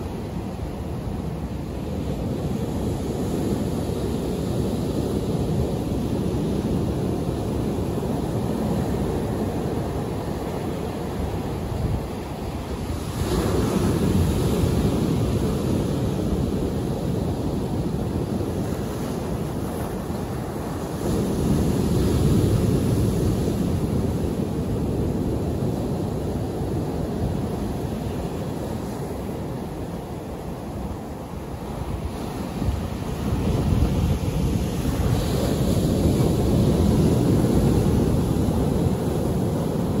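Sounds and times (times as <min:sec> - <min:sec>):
waves breaking on shore: 0:00.0 - 0:40.0
wind buffeting microphone: 0:00.0 - 0:40.0.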